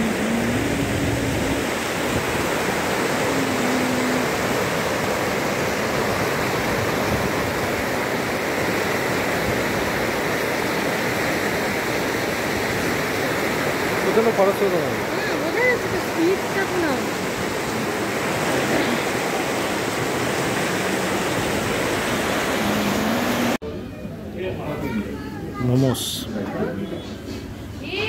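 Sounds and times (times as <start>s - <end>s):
river rushing over boulders: 0.0s - 23.6s.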